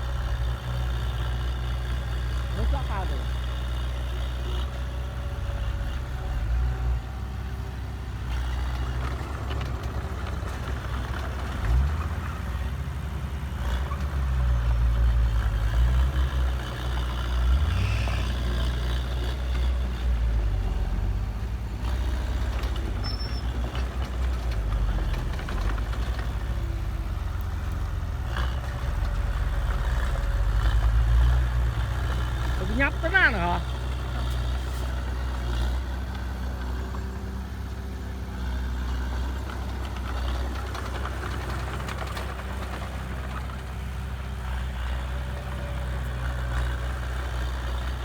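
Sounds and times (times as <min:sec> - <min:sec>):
heavy diesel engine revving: 0:00.0 - 0:48.0.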